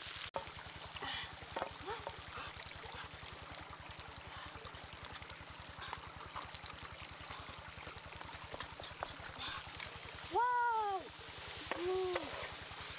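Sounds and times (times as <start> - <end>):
stream trickling over rocks: 0.0 - 12.9.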